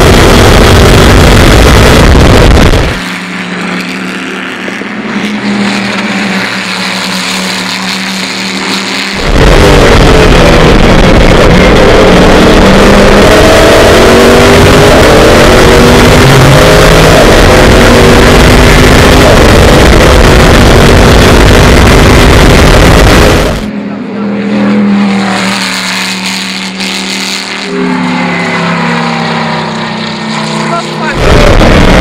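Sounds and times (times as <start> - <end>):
race car engine at full throttle: 0.0 - 32.0
wind and road noise: 0.0 - 32.0.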